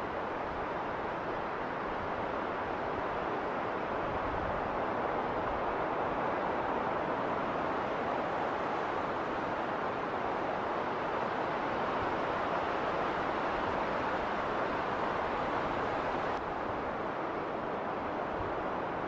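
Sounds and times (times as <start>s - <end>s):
wind blowing in snowstorm: 0.0s - 19.0s.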